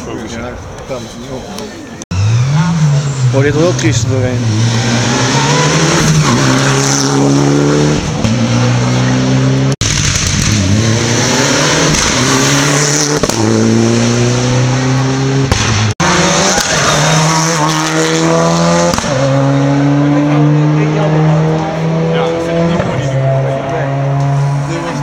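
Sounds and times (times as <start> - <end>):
rally car engine at full throttle: 2.0 - 25.0.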